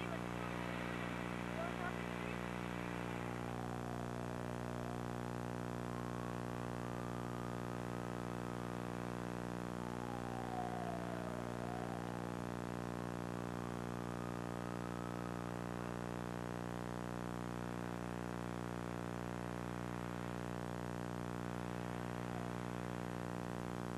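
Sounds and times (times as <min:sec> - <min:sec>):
buzzing hum: 0:00.0 - 0:23.9.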